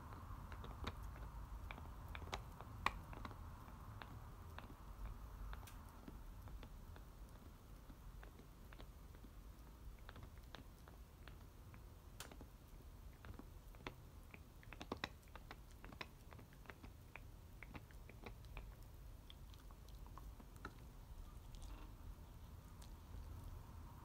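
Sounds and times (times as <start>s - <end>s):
dog chewing toy bone: 0.1s - 24.0s.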